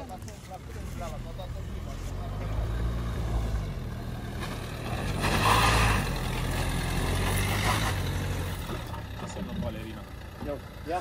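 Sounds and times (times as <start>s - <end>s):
car engine working under load: 0.0s - 11.0s.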